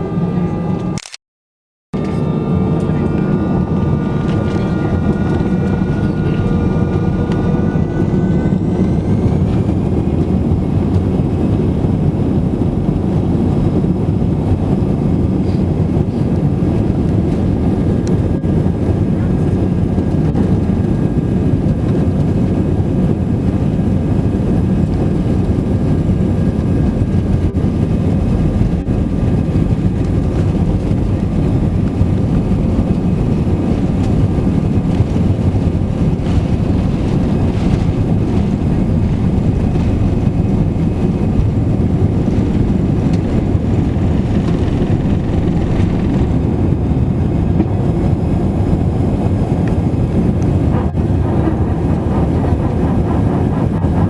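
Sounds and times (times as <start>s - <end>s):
airplane cabin engine roar: 0.0s - 1.2s, 2.0s - 54.0s.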